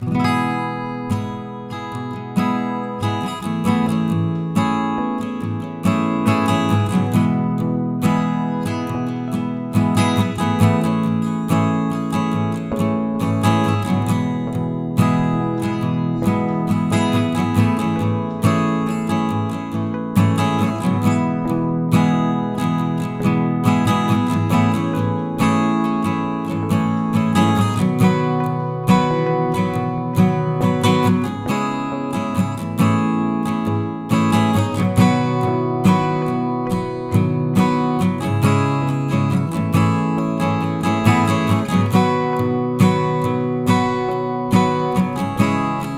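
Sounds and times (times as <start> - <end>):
strummed acoustic guitar music: 0.0 - 45.9.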